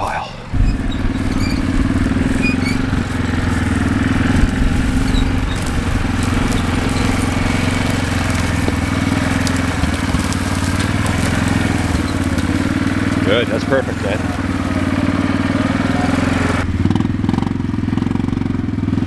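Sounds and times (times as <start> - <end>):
vehicle engine running steadily: 0.0 - 19.0.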